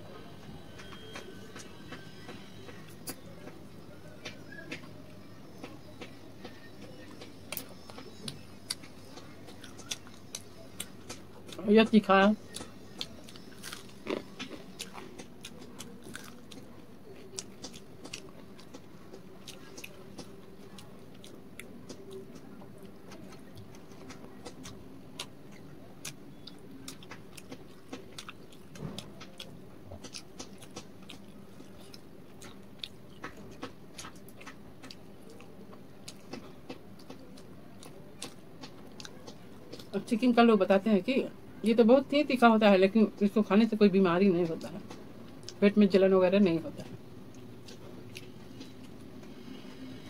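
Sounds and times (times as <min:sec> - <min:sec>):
faint steady hum: 0:00.0 - 0:50.0
crunchy chewing: 0:00.8 - 0:40.2, 0:46.8 - 0:49.8.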